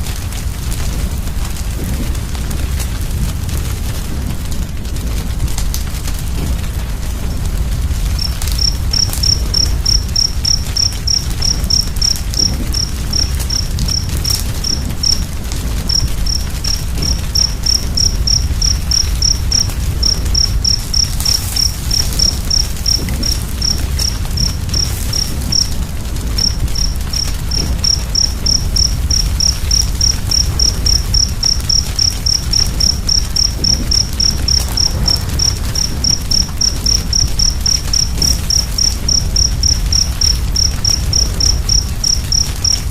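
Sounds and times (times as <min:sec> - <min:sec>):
fire rumbling and crackling: 0:00.0 - 0:42.9
cricket chirping: 0:06.3 - 0:42.9.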